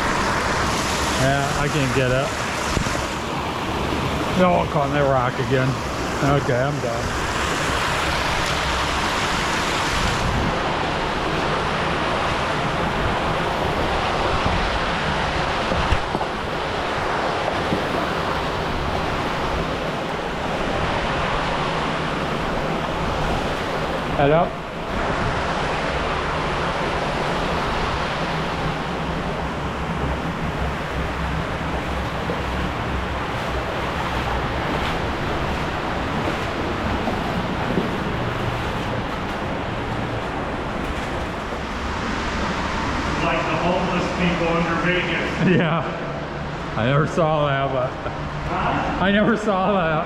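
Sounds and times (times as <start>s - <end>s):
creek water rushing: 0.0s - 50.0s.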